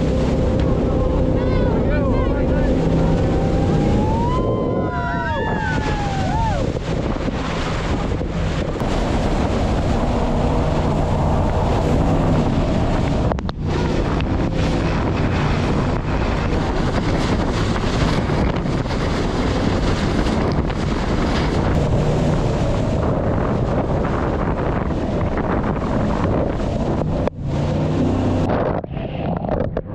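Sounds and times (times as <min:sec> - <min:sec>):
boat engine running: 0:00.0 - 0:29.9
water noise: 0:00.0 - 0:29.9
wind rushing over microphone: 0:00.0 - 0:29.9.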